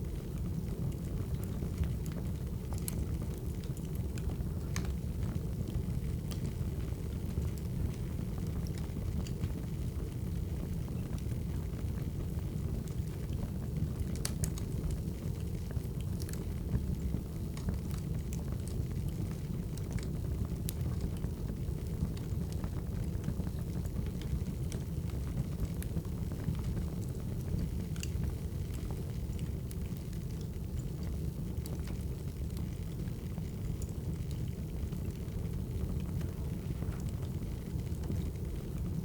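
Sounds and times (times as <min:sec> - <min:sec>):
wood fire crackling: 0:00.0 - 0:39.0
fire pops and snaps: 0:00.4 - 0:39.0.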